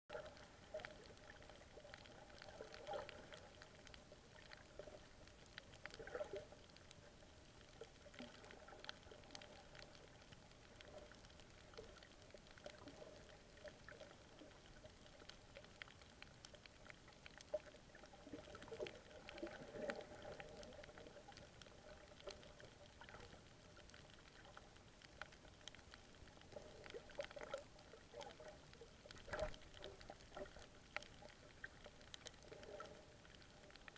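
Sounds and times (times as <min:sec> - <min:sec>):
muffled underwater hiss: 0:00.1 - 0:33.9
small underwater clicks: 0:00.1 - 0:33.9.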